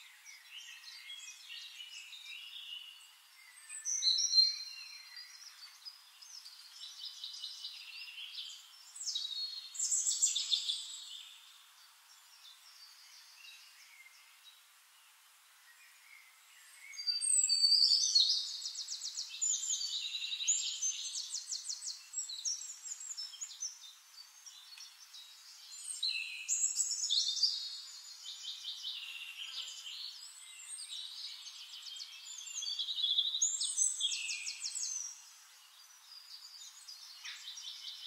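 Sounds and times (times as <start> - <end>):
songbird trilling and chirping: 0.0 - 14.4, 15.9 - 38.0.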